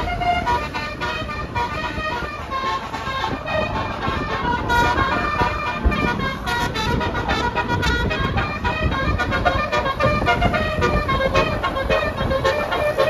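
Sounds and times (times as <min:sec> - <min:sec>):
multi-tone bus horn tune: 0:00.0 - 0:13.0
road traffic rumble: 0:00.0 - 0:13.0.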